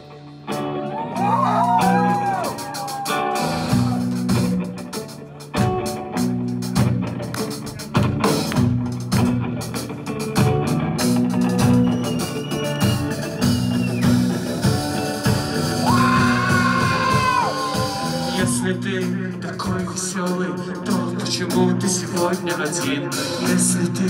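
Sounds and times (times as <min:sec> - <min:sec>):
drum kit beat: 0:00.0 - 0:24.0
high held guitar line: 0:00.0 - 0:24.0
rock band playing: 0:00.0 - 0:24.0
strummed guitar chords: 0:00.0 - 0:24.0.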